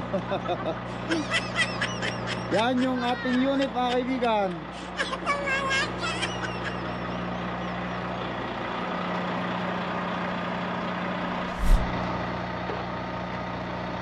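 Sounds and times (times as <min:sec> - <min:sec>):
diesel truck idling: 0:00.0 - 0:14.0.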